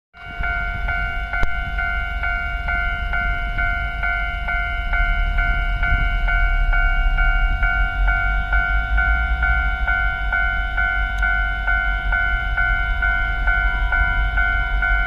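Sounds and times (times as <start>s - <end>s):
level crossing warning bell: 0.2s - 15.0s
low rumble: 0.2s - 15.0s.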